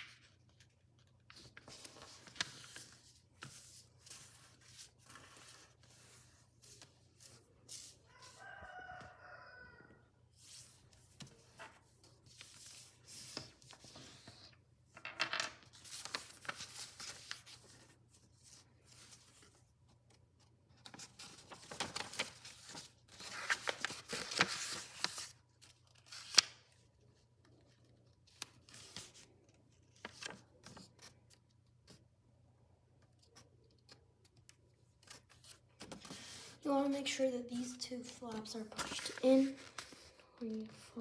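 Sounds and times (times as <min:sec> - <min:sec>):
paper folding rustle: 0:00.0 - 0:08.4, 0:10.3 - 0:14.6, 0:15.5 - 0:32.1, 0:33.1 - 0:41.0.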